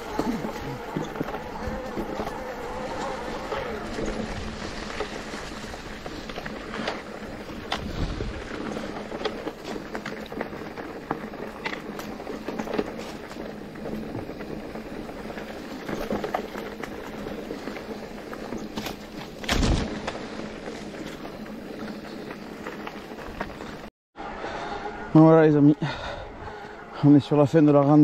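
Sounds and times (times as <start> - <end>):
bike tyres rolling on rough trail: 0.0 - 28.0.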